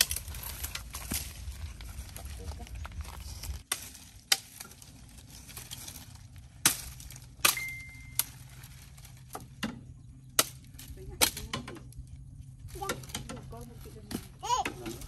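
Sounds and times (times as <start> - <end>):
dry branches cracking: 0.0 - 15.0.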